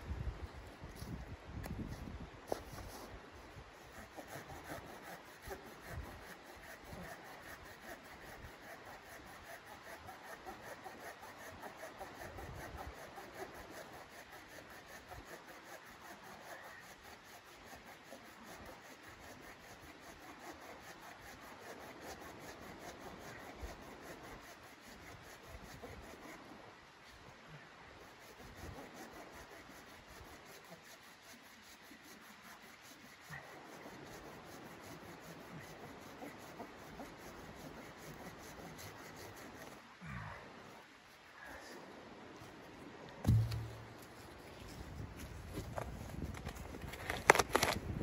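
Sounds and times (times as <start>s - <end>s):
hand saw cutting log: 2.5s - 26.5s, 28.0s - 39.8s, 43.2s - 48.0s.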